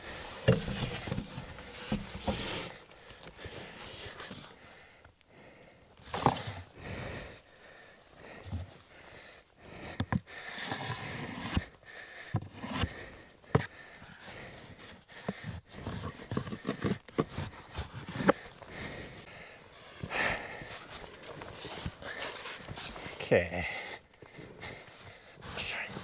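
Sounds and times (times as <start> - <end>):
person breathing: 2.3 - 26.0.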